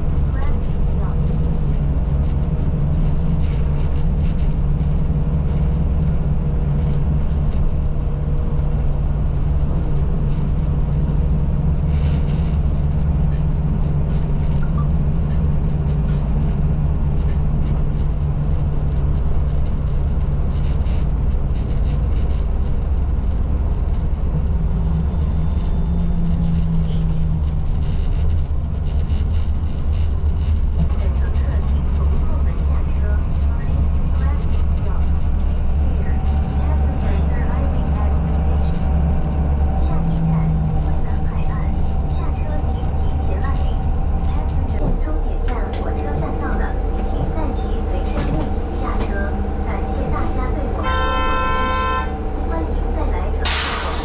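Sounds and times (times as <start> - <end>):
bus engine drone: 0.0 - 54.0
road noise inside bus: 0.0 - 54.0.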